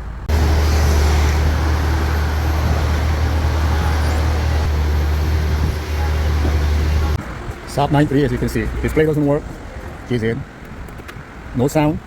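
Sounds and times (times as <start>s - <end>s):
low vehicle rumble: 0.0s - 10.1s.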